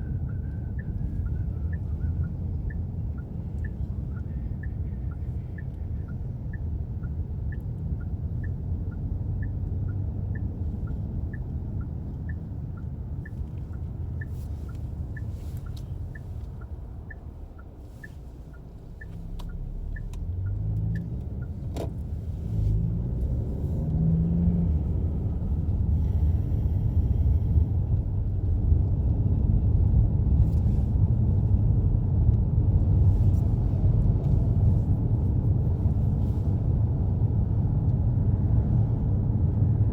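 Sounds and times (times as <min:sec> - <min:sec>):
engine and road rumble: 0:00.0 - 0:39.9
turn signal ticking: 0:00.0 - 0:39.9.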